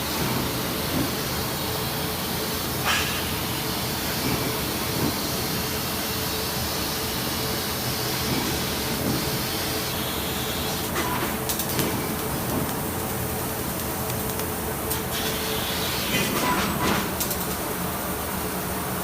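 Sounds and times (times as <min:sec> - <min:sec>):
machinery hissing and humming: 0:00.0 - 0:19.0.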